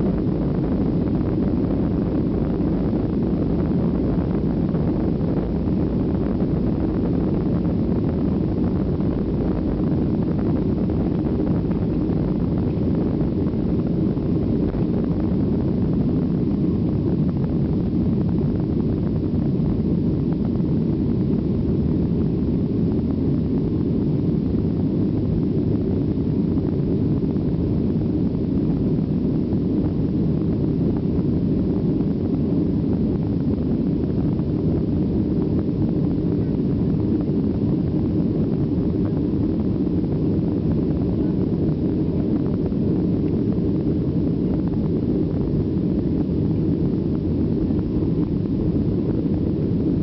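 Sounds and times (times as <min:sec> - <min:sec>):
jet engines at takeoff power: 0:00.0 - 0:50.0.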